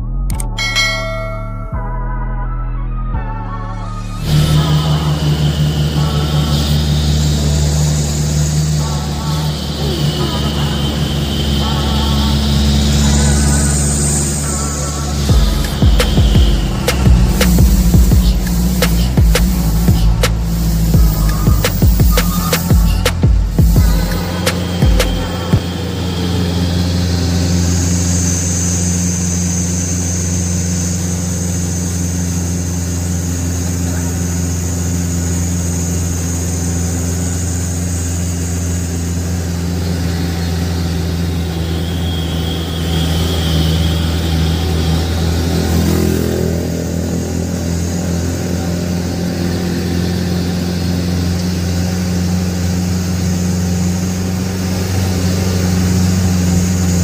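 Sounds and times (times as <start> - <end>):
truck engine hum from cab: 0.0 - 57.0.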